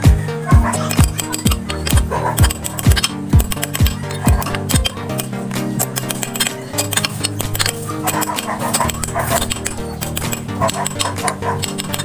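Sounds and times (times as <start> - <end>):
background music: 0.0 - 12.0
metallic clicks of lathe chuck: 0.9 - 12.0.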